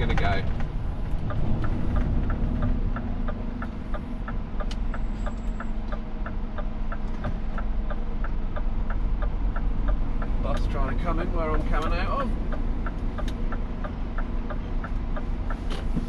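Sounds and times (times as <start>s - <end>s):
truck engine running: 0.0s - 16.0s
turn indicator ticking: 0.0s - 16.0s.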